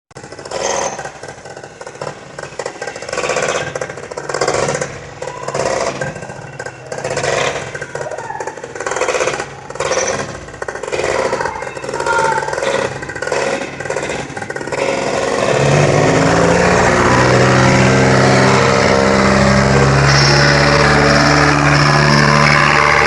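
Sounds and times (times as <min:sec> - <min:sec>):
propeller sled engine revving: 0:00.1 - 0:23.0.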